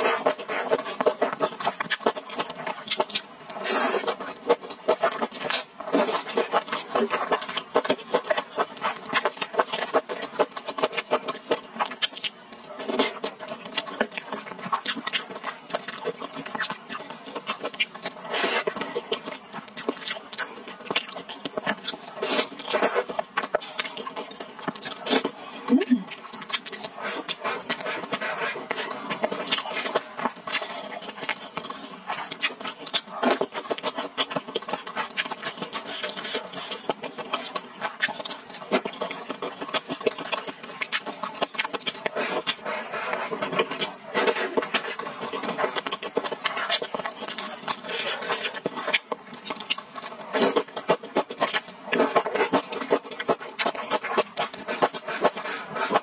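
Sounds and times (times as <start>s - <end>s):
chewing and lip smacking: 0.1s - 56.0s.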